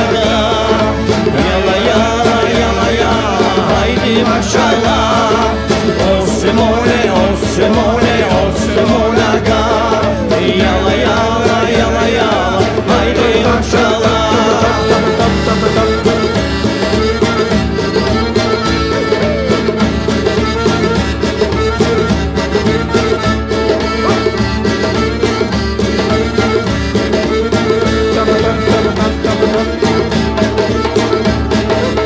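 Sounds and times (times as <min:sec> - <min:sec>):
accordion melody: 0:00.0 - 0:32.0
acoustic guitar: 0:00.0 - 0:32.0
hand drum beat: 0:00.0 - 0:32.0.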